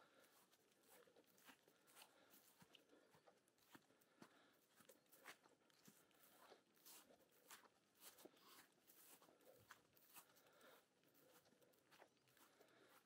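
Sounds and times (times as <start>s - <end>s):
footsteps crunching on path: 0.0s - 13.0s.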